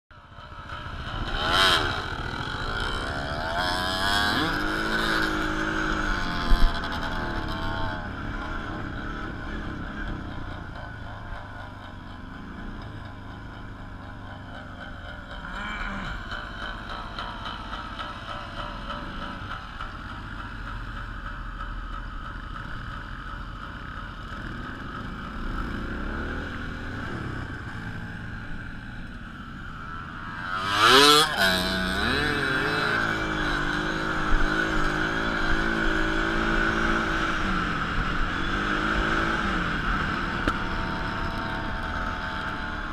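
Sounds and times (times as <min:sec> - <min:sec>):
off-road vehicle engine revving: 0:00.3 - 0:42.9.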